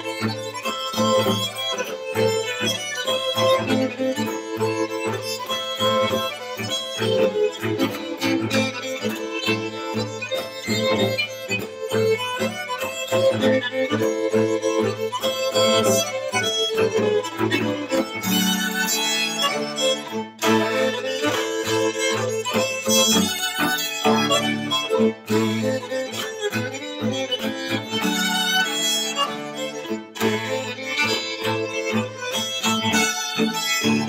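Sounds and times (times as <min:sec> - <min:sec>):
cello long low notes: 0:00.0 - 0:34.0
string quartet playing folk dance: 0:00.0 - 0:34.0.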